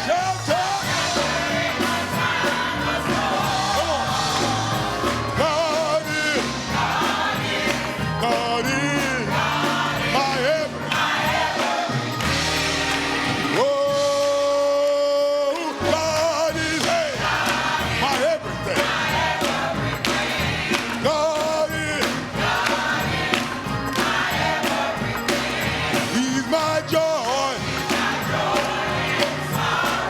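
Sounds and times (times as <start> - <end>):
gospel choir singing: 0.0 - 30.0
instrumental accompaniment: 0.0 - 30.0.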